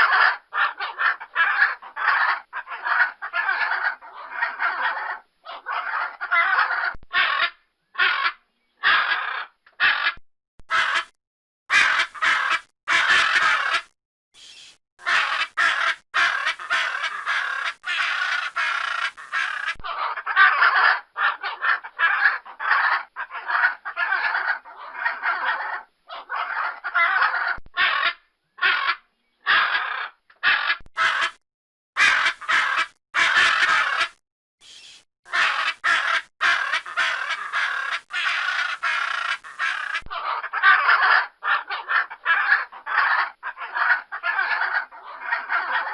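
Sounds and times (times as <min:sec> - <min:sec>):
macaw squawking: 0:00.0 - 0:11.1, 0:11.7 - 0:31.4, 0:32.0 - 0:45.9.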